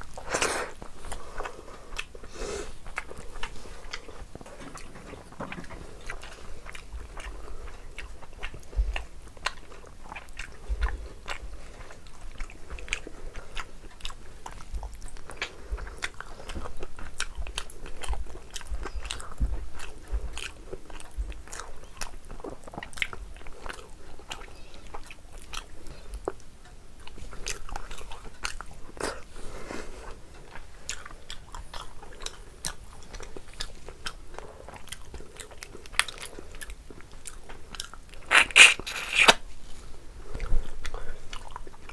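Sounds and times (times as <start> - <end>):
food crunching: 0.0 - 29.3, 30.0 - 39.5
wet chewing and smacking: 0.0 - 41.9.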